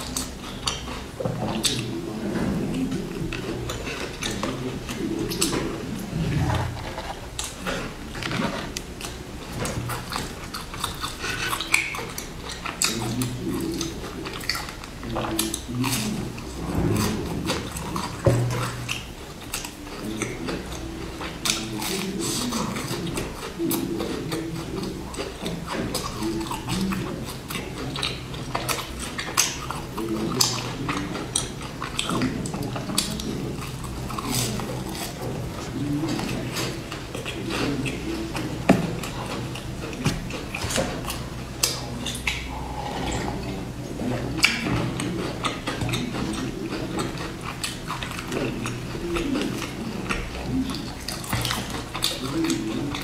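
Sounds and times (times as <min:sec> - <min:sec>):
crunchy cookie chewing: 0:00.0 - 0:53.0.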